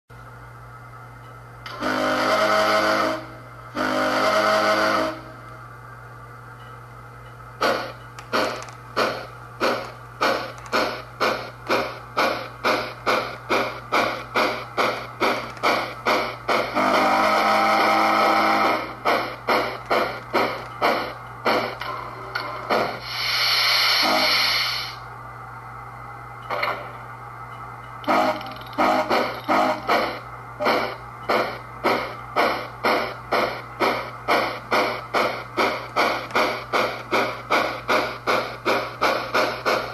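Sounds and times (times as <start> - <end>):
electrical hum: 0.1 - 39.9
steam locomotive exhaust chuffs: 0.2 - 25.2, 27.6 - 39.9.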